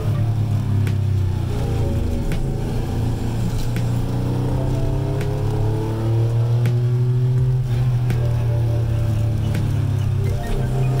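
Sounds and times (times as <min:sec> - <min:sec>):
background music with low drone: 0:00.0 - 0:11.0.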